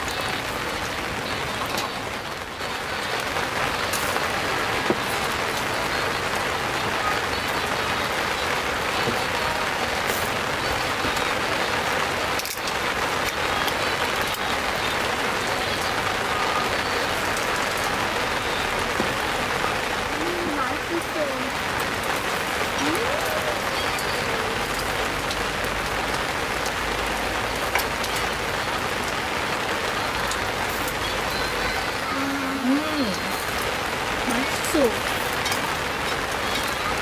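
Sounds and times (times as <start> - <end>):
rain pattering on surfaces: 0.0 - 37.0.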